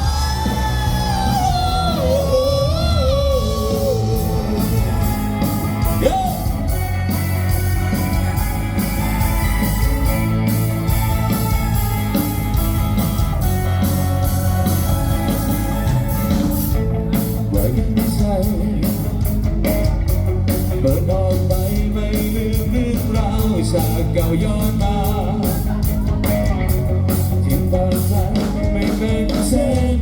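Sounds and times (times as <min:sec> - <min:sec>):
drums keeping a steady beat: 0:00.0 - 0:30.0
electric guitar: 0:00.0 - 0:30.0
rock-pop band playing: 0:00.0 - 0:30.0.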